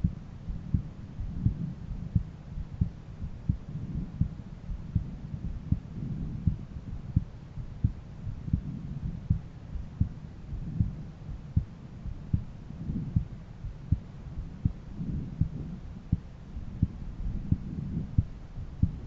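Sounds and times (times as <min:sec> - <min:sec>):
heartbeat through stethoscope: 0:00.0 - 0:19.0
low rumble: 0:00.0 - 0:19.0.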